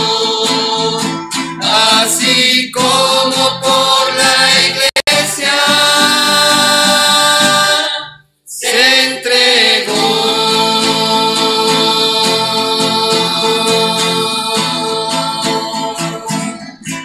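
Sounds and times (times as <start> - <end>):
acoustic guitar: 0.0 - 17.0
group singing a hymn: 0.0 - 17.0.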